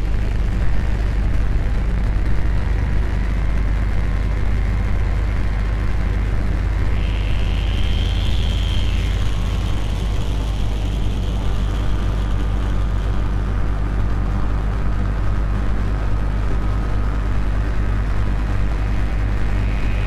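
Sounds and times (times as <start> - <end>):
rumbling noise drone: 0.0 - 20.0.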